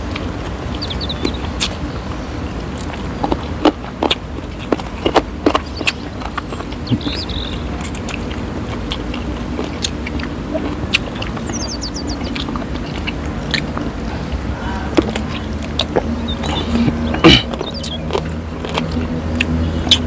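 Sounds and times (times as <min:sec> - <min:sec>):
chewing and lip smacks: 0:00.0 - 0:20.0
steady low hum: 0:00.0 - 0:20.0.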